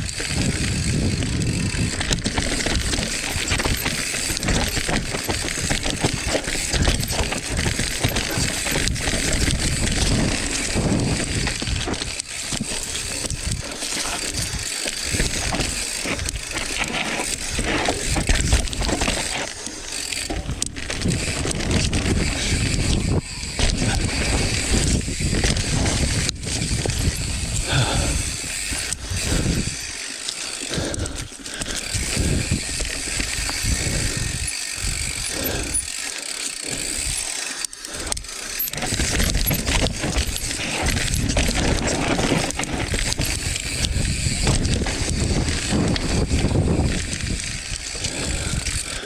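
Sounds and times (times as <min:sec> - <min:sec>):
bike clattering and rattling: 0:00.0 - 0:49.0
bike tyres on dirt: 0:00.0 - 0:49.0.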